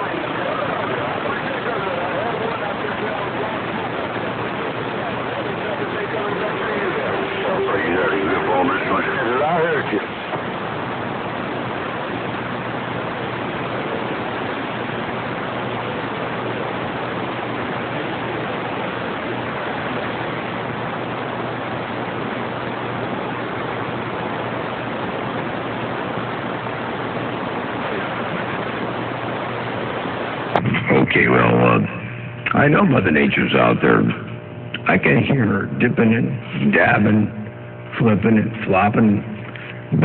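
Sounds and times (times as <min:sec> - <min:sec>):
faint low hum: 0:00.0 - 0:40.0
radio static hiss: 0:00.0 - 0:40.0.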